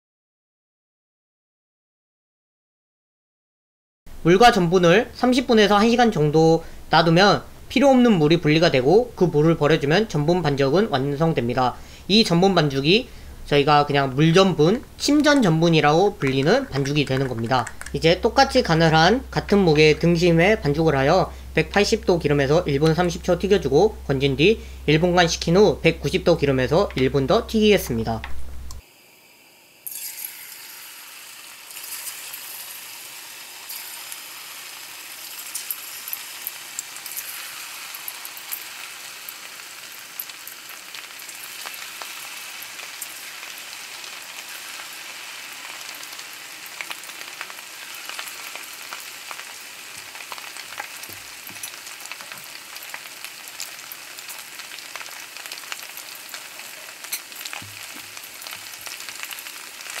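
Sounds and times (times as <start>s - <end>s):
battered meat deep-frying in oil: 4.1s - 28.1s, 28.8s - 60.0s.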